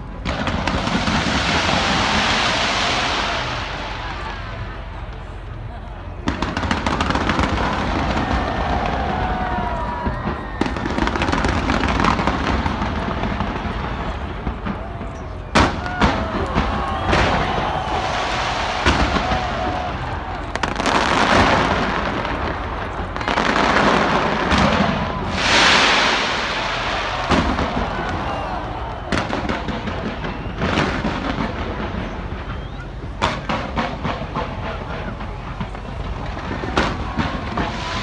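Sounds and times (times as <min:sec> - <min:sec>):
fireworks bangs and crackling: 0:00.0 - 0:38.0
fireworks rushing swells: 0:00.0 - 0:38.0.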